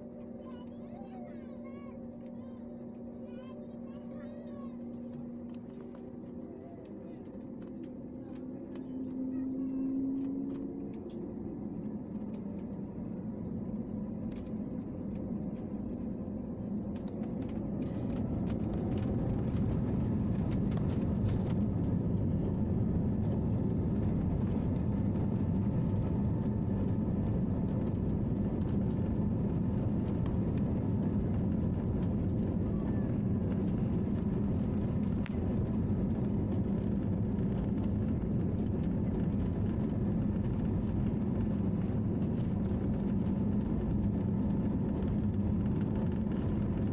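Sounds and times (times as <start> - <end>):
jet engines rumbling in cabin: 0.0 - 46.9
light rattles and clicks: 3.3 - 13.0, 13.8 - 16.0, 16.6 - 46.9.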